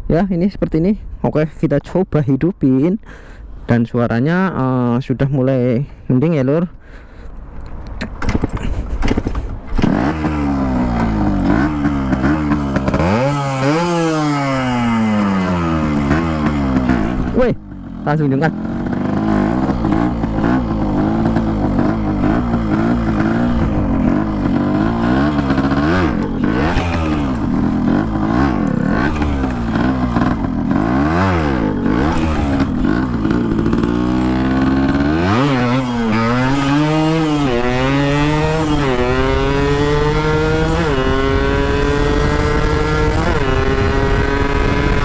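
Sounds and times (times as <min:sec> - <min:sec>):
motorcycle engine revving: 0:08.2 - 0:45.0
motorcycle accelerating through gears: 0:08.5 - 0:45.0.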